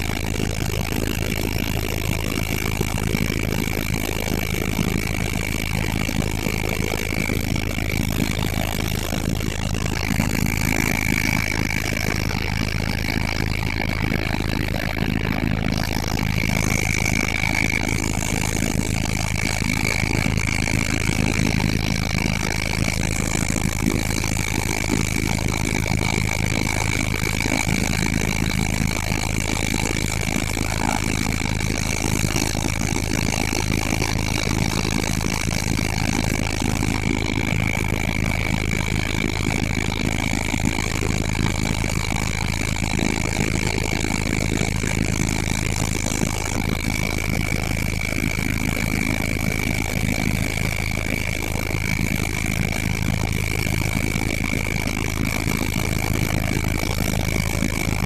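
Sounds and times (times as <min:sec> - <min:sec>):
helicopter engine drone: 0:00.0 - 0:58.0.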